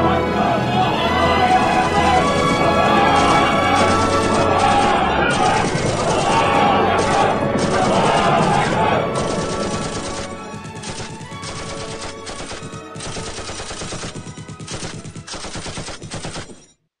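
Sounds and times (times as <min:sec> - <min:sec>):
music: 0:00.0 - 0:16.8
automatic gunfire bursts: 0:01.7 - 0:16.7.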